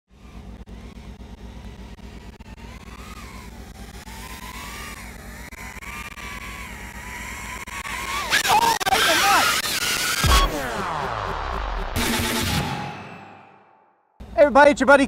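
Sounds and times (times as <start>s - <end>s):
drone motors whining: 0.1s - 13.6s.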